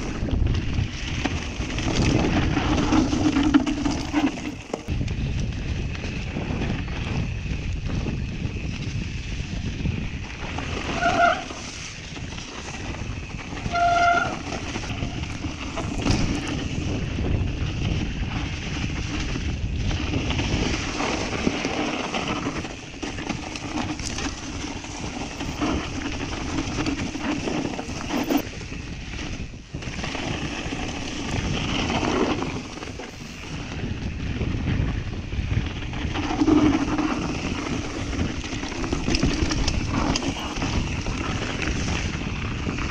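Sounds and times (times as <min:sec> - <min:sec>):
bike tyres rumbling and frame rattling: 0:00.0 - 0:42.9
wind on microphone: 0:00.0 - 0:42.9.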